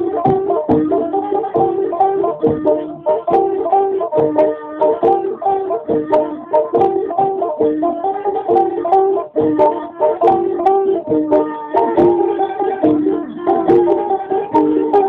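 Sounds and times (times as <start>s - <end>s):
plucked lute notes: 0.0s - 15.0s
reed pipe melody: 0.0s - 15.0s.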